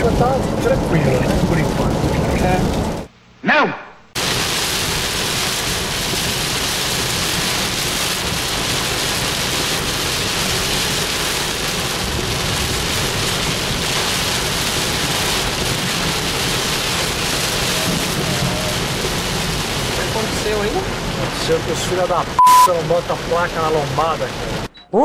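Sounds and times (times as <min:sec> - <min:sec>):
heavy rain on car roof: 0:00.0 - 0:03.1, 0:04.2 - 0:24.7.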